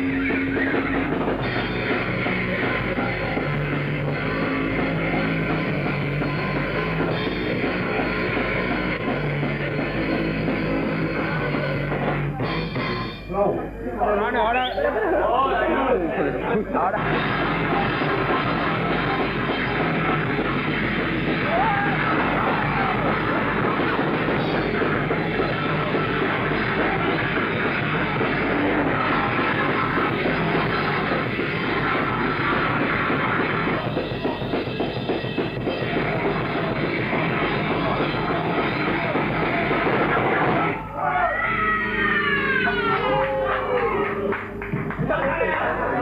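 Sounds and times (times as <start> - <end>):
pounding drum kit: 0.0 - 13.3, 17.0 - 40.9
punk band playing live: 0.0 - 13.8, 16.9 - 46.0.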